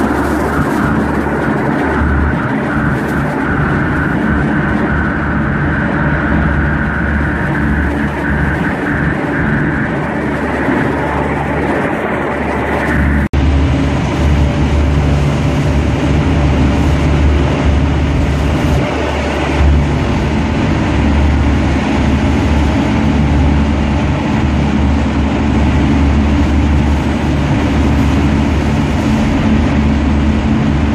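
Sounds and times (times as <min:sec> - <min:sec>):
boat engines running hard: 0:00.0 - 0:30.9
rush of boat wake: 0:00.0 - 0:30.9
wind across microphone: 0:00.0 - 0:30.9.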